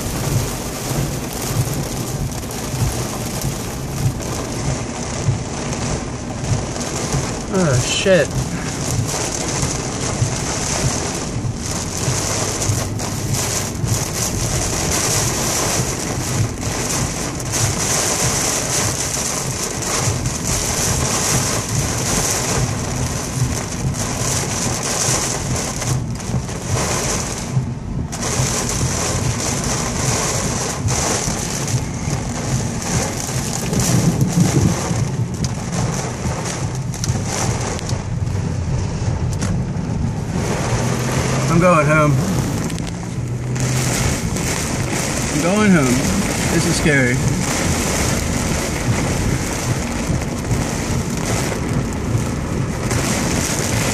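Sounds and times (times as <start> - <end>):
heavy rain on car roof: 0.0 - 53.9.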